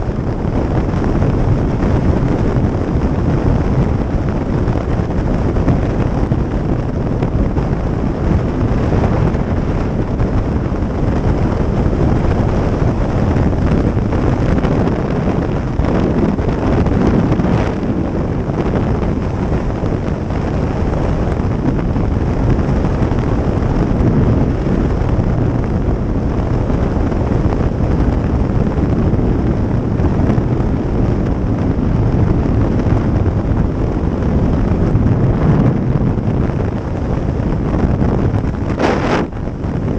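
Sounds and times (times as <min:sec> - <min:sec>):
motorcycle running: 0:00.0 - 0:39.9
wind buffeting microphone: 0:00.0 - 0:39.9.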